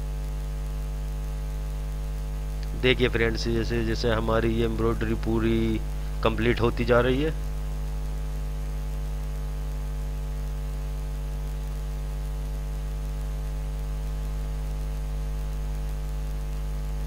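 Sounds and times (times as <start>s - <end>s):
electrical mains hum: 0.0s - 17.0s
light hiss: 0.0s - 17.0s.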